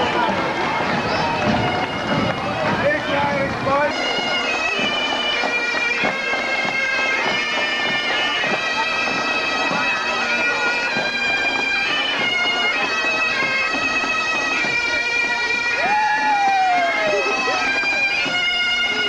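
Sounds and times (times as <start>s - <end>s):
bagpipes playing: 0.0s - 19.0s.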